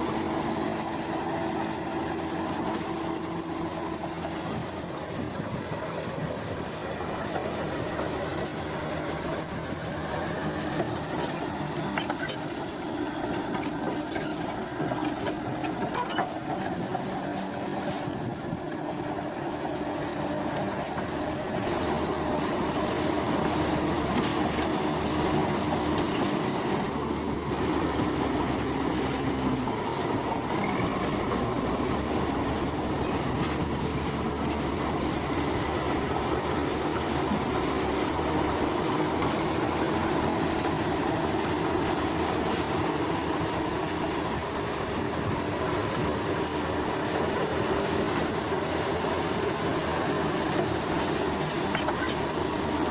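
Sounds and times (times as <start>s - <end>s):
diesel engine running: 0.0s - 52.9s
steel tracks squealing and clattering: 0.0s - 52.9s.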